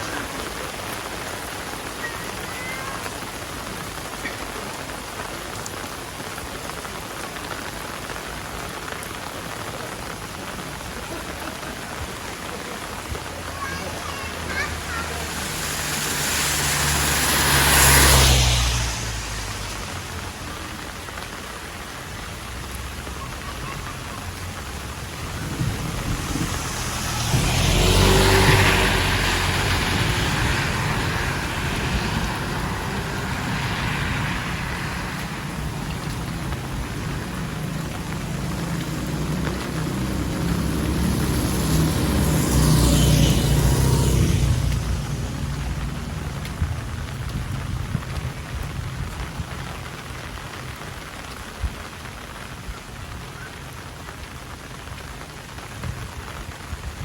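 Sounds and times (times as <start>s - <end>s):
heavy rain: 0.0s - 57.0s
vehicle passing on wet road: 0.0s - 57.0s.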